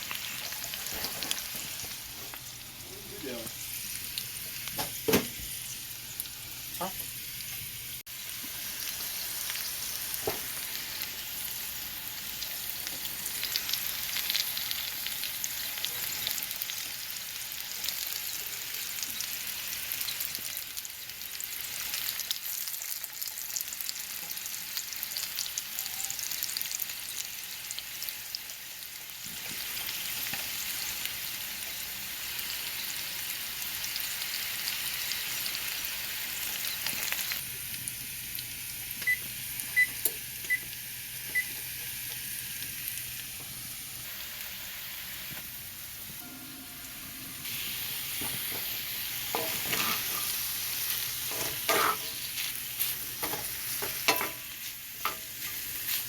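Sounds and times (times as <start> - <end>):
potatoes sizzling in oil: 0.0 - 56.0.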